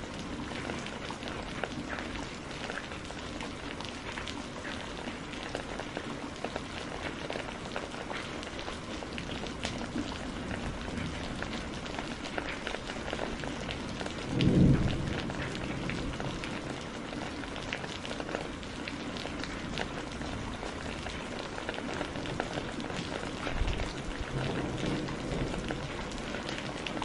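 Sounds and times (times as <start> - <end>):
low rumble of thunder: 0.0 - 6.1, 8.5 - 27.0
fireplace fire crackling: 0.0 - 27.0
steady rain: 0.0 - 27.0.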